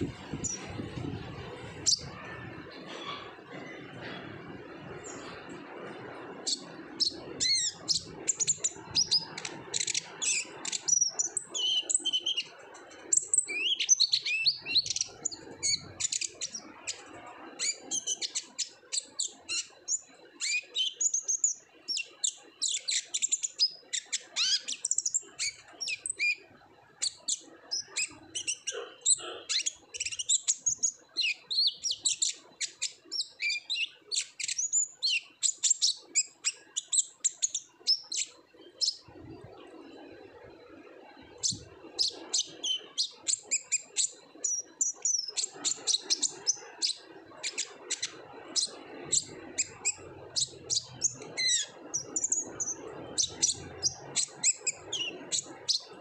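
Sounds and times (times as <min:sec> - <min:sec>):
bird chirping and trilling: 0:00.0 - 0:04.2, 0:04.8 - 0:40.2, 0:40.8 - 0:56.0.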